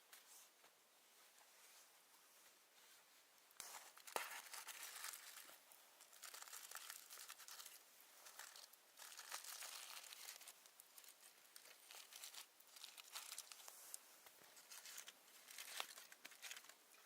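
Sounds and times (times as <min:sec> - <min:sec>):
material crinkling and rustling: 0:01.2 - 0:17.0.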